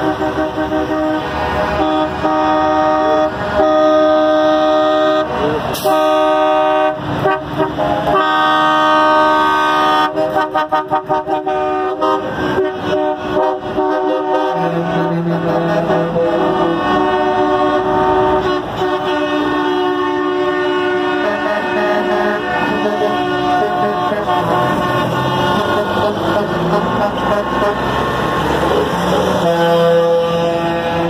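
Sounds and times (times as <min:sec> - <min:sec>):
short air horn toots: 0:00.0 - 0:28.3
truck air horn blasts: 0:00.0 - 0:31.0.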